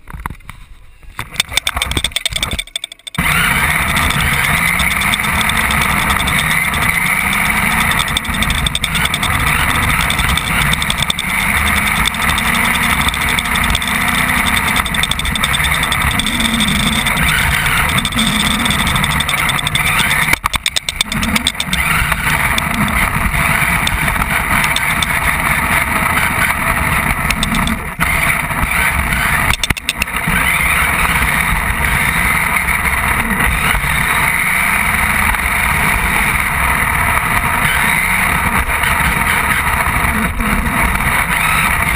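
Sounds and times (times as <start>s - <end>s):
radio-controlled car motor: 1.4s - 41.9s.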